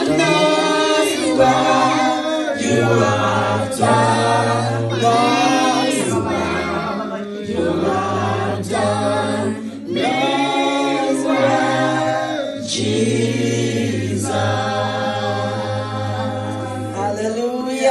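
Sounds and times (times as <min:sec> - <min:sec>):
man and woman singing worship song: 0:00.0 - 0:17.9.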